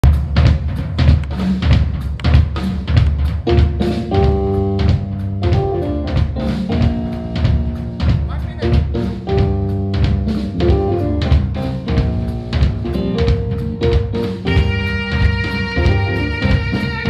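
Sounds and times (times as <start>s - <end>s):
bass guitar: 0.0s - 17.0s
drum kit beat: 0.0s - 17.0s.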